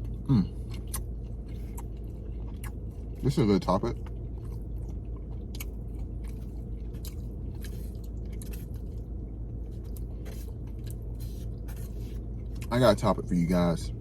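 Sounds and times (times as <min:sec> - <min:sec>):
chewing and biting food: 0:00.0 - 0:12.9
steady low hum: 0:00.0 - 0:14.0.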